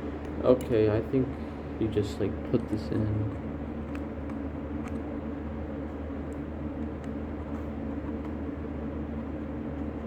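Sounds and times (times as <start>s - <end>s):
low hum with hiss: 0.0s - 10.0s.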